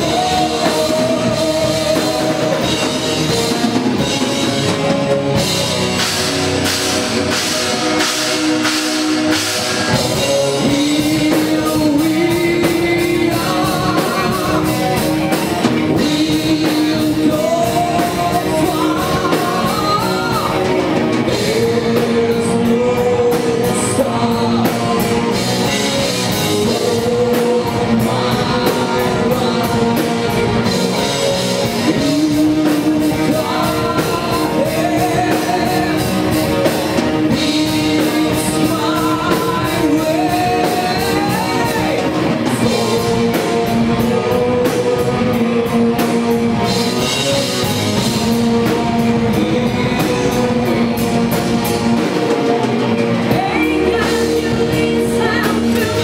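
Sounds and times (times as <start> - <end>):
drum kit: 0.0 - 56.0
electric guitar: 0.0 - 56.0
person singing: 0.0 - 56.0.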